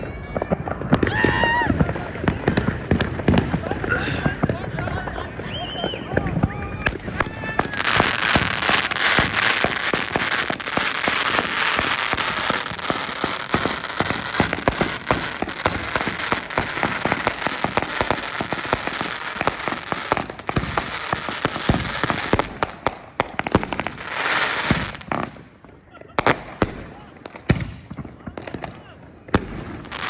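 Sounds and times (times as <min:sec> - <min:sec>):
firecracker bangs: 0:00.0 - 0:25.5, 0:26.2 - 0:30.0
fireworks cracking and popping: 0:00.0 - 0:30.0.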